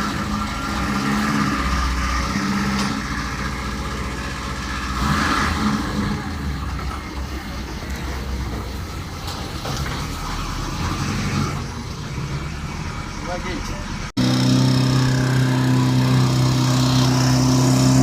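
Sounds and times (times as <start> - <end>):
car engine idling with throttle blips: 0.0 - 9.4, 10.2 - 18.0.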